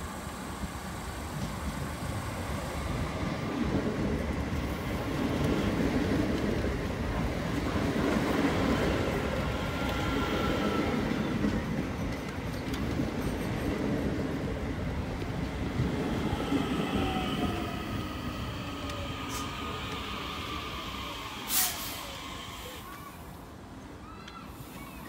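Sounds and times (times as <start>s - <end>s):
electric train passing: 0.0s - 23.9s.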